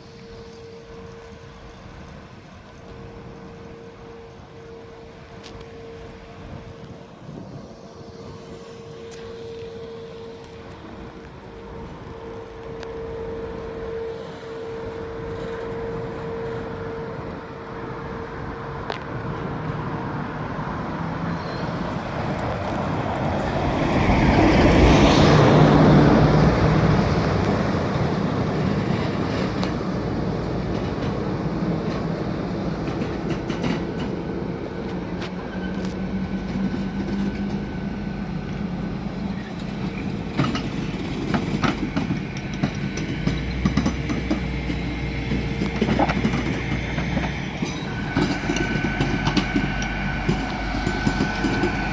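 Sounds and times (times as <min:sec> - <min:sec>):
diesel locomotive passing: 0:00.0 - 0:51.9
rumble of wagons rolling: 0:00.0 - 0:51.9.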